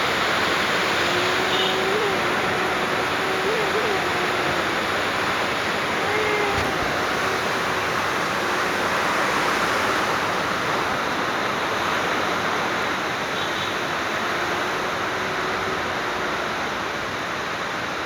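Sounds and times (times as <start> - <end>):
rain falling steadily: 0.0 - 18.0.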